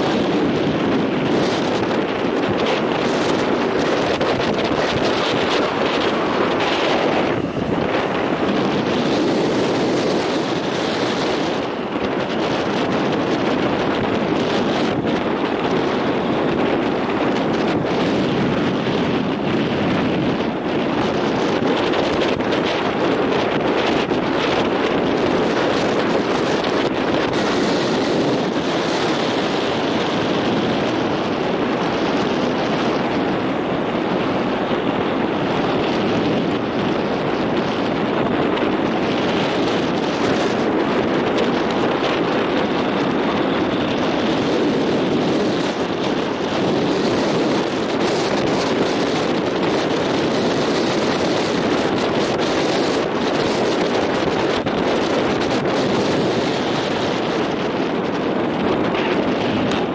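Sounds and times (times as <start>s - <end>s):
choppy water washing: 0.0s - 59.9s
wind buffeting microphone: 0.0s - 59.9s.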